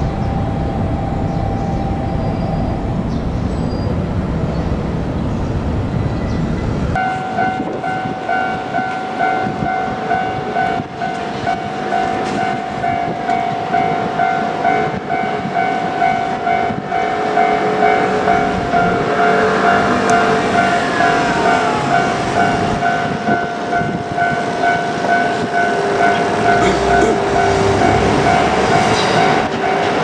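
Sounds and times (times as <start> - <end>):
level crossing warning bell: 0.0 - 4.9, 7.0 - 30.0
diesel railcar rumble: 0.0 - 30.0.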